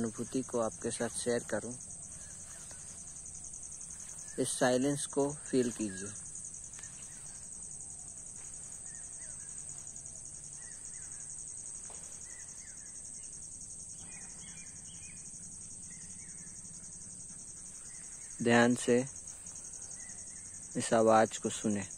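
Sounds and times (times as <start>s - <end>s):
faint bird chirps: 0.0s - 21.9s
high-pitched insect trill: 0.0s - 21.9s.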